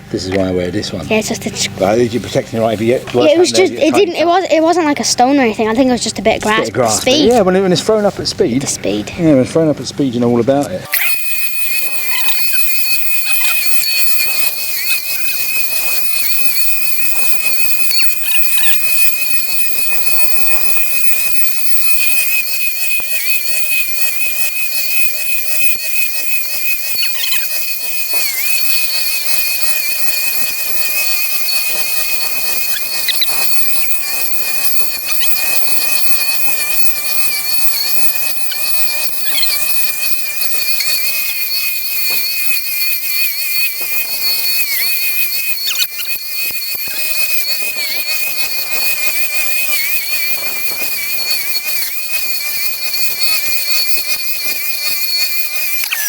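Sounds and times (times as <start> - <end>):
electric strimmer motor whining: 10.9 - 56.0.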